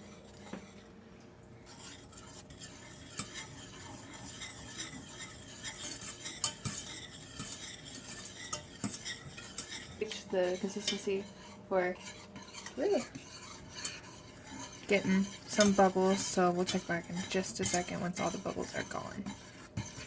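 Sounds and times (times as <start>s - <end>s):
spoon scraping and clinking bowl: 1.7s - 20.0s.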